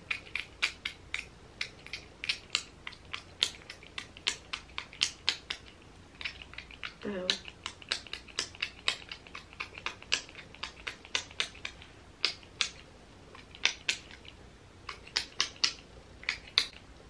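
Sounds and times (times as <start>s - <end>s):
fingertips patting sticky gel: 0.0s - 16.8s.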